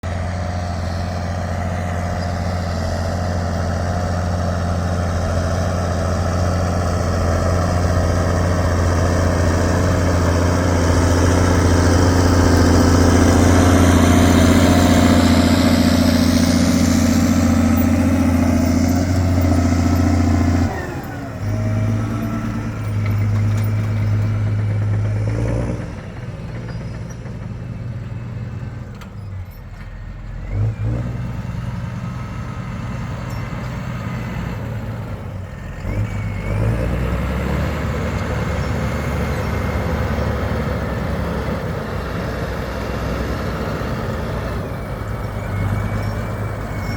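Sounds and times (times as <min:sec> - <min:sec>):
tractor diesel engine droning: 0:00.0 - 0:46.9.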